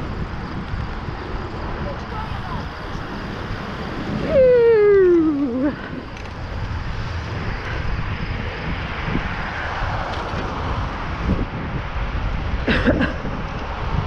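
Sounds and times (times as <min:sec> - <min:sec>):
bicycle tyre noise: 0:00.0 - 0:14.0
wind rushing over microphone: 0:00.0 - 0:14.0.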